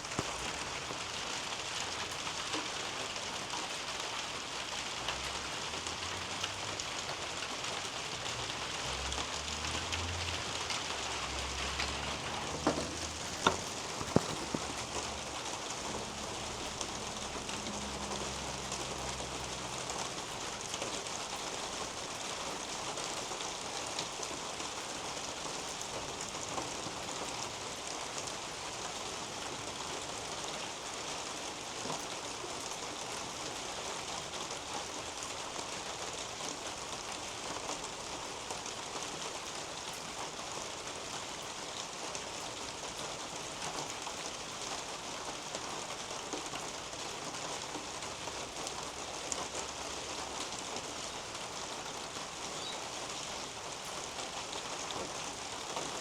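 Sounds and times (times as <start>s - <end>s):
rain falling on plants: 0.0s - 56.0s
raindrops ticking nearby: 0.0s - 56.0s.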